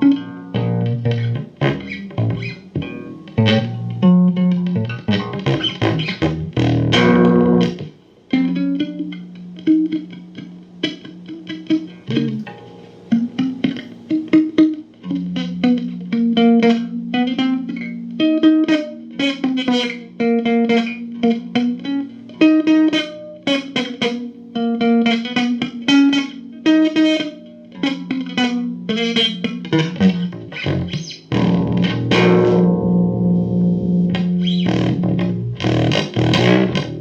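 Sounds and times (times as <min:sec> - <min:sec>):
guitar chord ringing: 0:00.0 - 0:37.0
guitar picking notes: 0:00.0 - 0:37.0.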